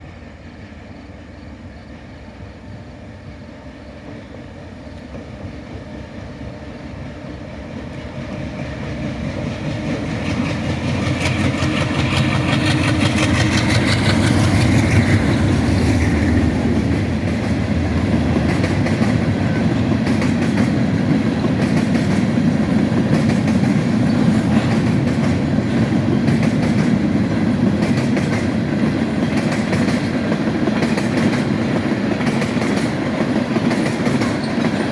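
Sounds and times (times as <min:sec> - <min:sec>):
diesel freight train rumbling: 0:00.0 - 0:34.9.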